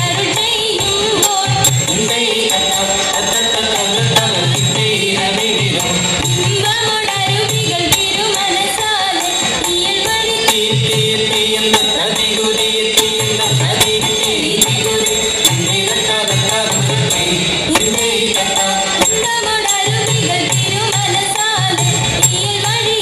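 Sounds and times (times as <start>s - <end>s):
sharp percussive strikes: 0.0s - 23.0s.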